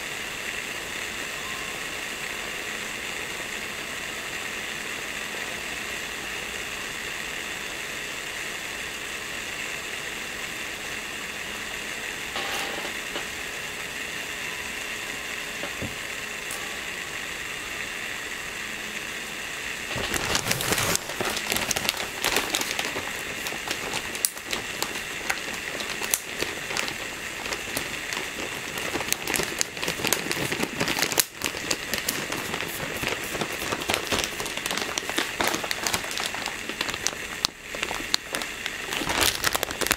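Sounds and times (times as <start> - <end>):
dough sizzling in waffle maker: 0.0 - 39.9.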